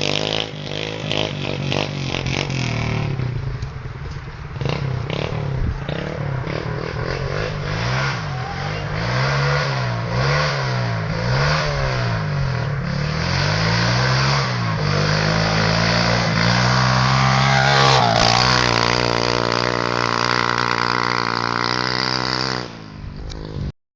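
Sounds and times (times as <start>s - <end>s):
pit bike engine revving: 0.0s - 3.5s, 4.5s - 23.7s.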